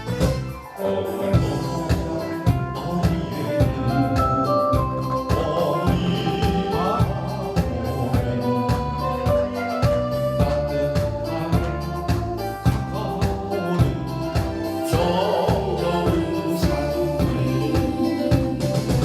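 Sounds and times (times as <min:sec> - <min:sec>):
bass-heavy band accompaniment: 0:00.0 - 0:19.0
upbeat polka song with vocal: 0:00.0 - 0:19.0.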